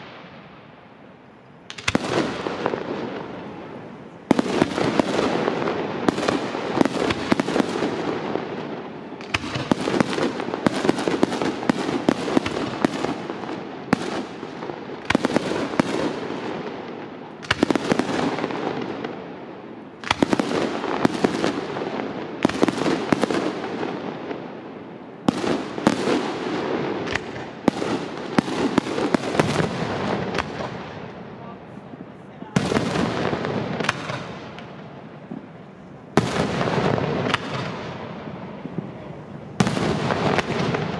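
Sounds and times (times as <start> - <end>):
fireworks bangs and cracks: 0.0 - 0.7, 1.6 - 40.9.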